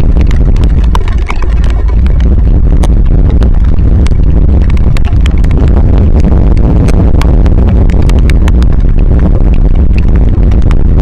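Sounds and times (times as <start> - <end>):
heavy rain hitting microphone: 0.0 - 11.0.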